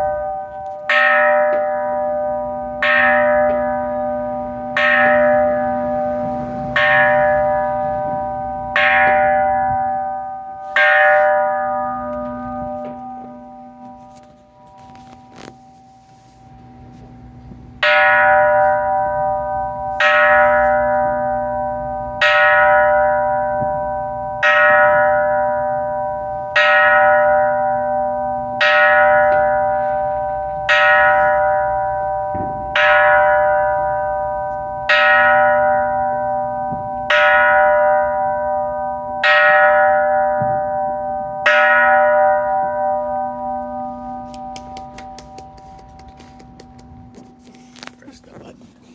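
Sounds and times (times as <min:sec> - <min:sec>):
temple bell struck with mallet: 0:00.0 - 0:46.0.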